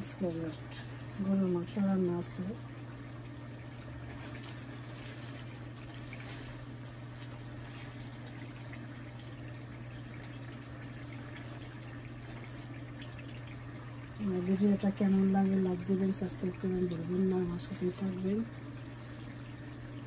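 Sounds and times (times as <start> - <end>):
gravy bubbling in a pan: 0.0 - 20.0
steady low hum: 0.0 - 20.0.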